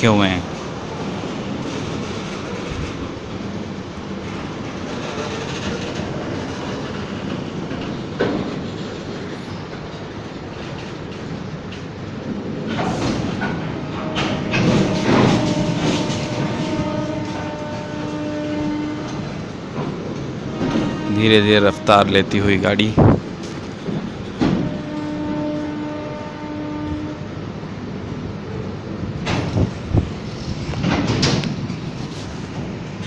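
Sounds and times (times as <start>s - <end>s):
train wheels clattering over rail joints: 0.4s - 21.1s, 22.8s - 26.2s, 28.9s - 33.0s.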